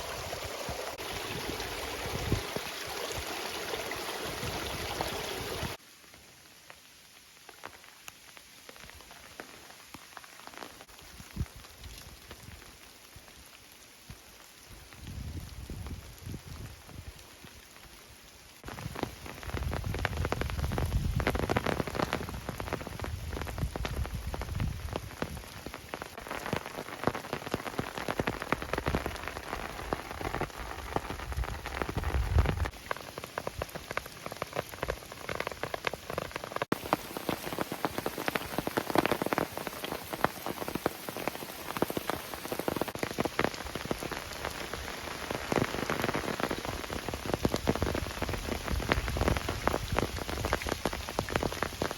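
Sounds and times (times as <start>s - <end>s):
raindrops hitting a surface: 0.0s - 51.9s.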